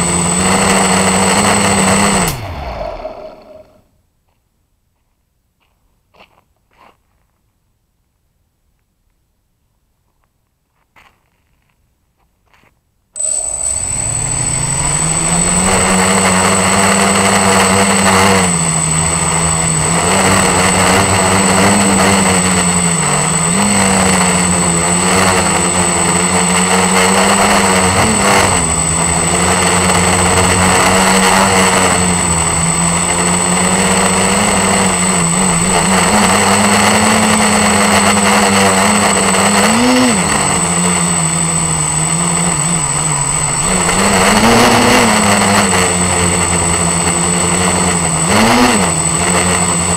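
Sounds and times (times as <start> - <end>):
quadcopter motors and propellers: 0.0 - 3.8, 13.2 - 49.9
steady high whine: 0.0 - 3.8, 13.2 - 49.9.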